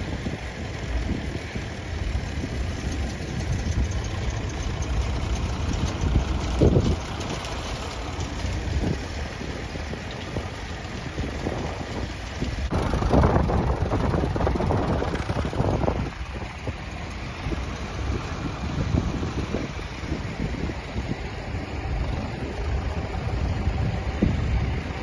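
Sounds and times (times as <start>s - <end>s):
tractor engines running: 0.0s - 25.0s
wind buffeting microphone: 0.0s - 25.0s.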